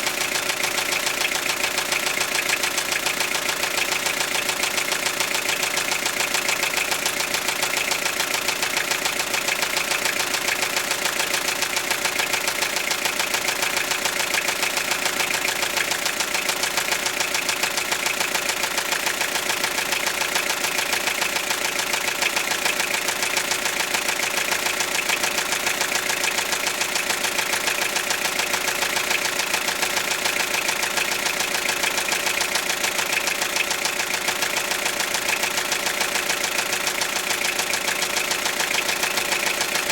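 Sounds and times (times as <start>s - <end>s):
engine knocking: 0.0s - 39.9s.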